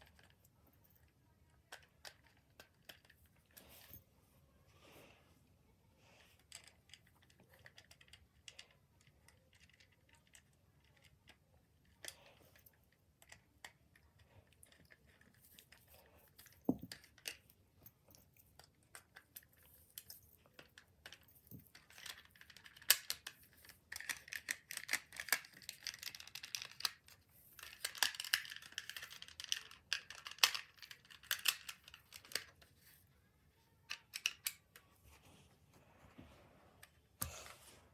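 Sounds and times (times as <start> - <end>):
plastic toy clicks and rustles: 0.0 - 3.6, 6.4 - 17.6, 18.4 - 33.1, 33.8 - 34.8.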